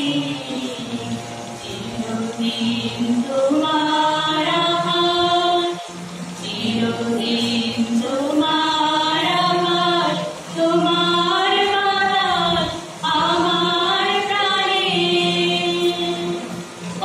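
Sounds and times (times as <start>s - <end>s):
harmonium notes: 0.0s - 17.0s
women singing in unison: 0.0s - 17.0s.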